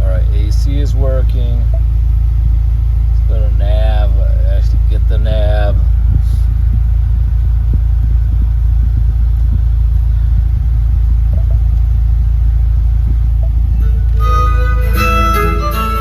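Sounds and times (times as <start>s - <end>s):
car engine idling: 0.0s - 16.0s
climate control fan running: 0.0s - 16.0s.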